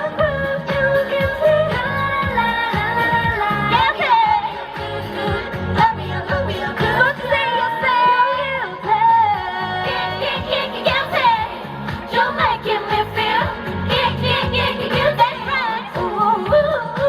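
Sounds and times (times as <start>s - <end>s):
dance-pop song with female singing: 0.0s - 17.0s.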